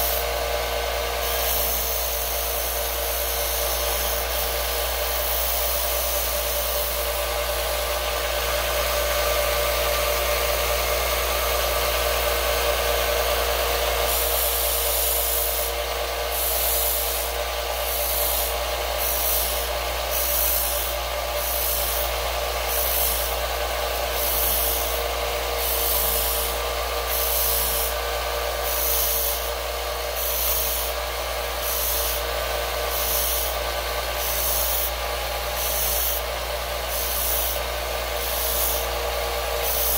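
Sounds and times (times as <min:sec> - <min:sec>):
belt sander motor hum: 0:00.0 - 0:39.9
metal grinding on sanding belt: 0:00.0 - 0:39.9.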